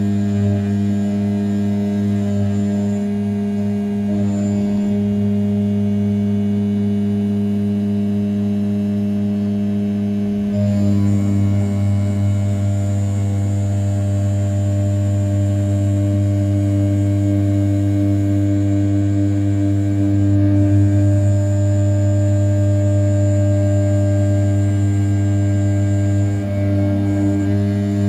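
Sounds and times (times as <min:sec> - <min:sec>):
milling machine humming and whining: 0:00.0 - 0:28.0.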